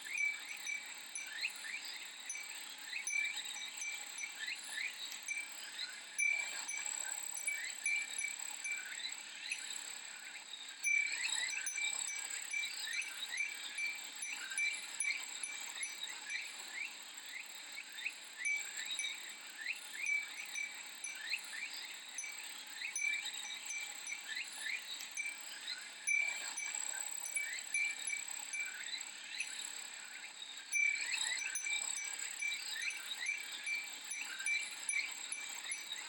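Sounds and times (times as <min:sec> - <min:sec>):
wind chime tinkling: 0:00.0 - 0:09.7, 0:10.8 - 0:16.9, 0:18.3 - 0:29.7, 0:30.7 - 0:36.0.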